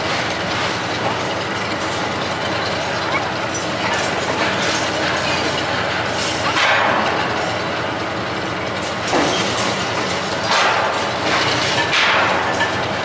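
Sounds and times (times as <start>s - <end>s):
crane diesel engine and winch: 0.0s - 13.0s.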